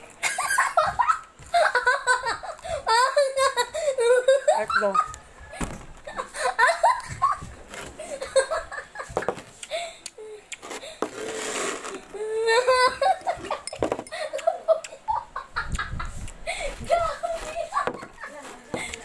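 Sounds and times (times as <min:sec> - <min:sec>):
person giggling: 0:00.2 - 0:09.8, 0:12.2 - 0:19.0.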